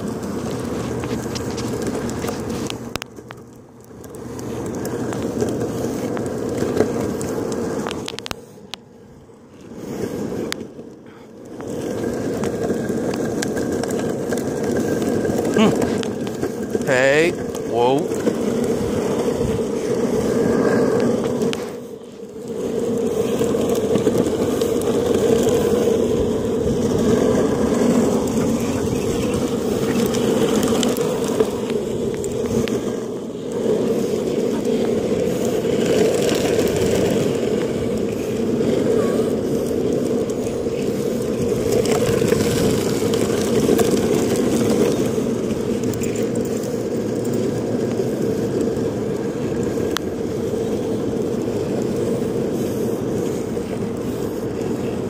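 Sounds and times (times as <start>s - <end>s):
longboard wheels rolling on asphalt: 0.0s - 55.0s.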